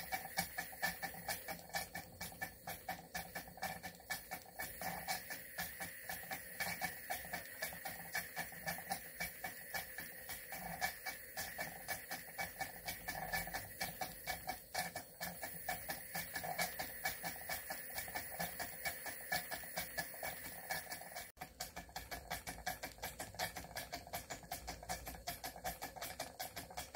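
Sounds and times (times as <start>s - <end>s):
model steam engine ticking: 0.0s - 26.9s.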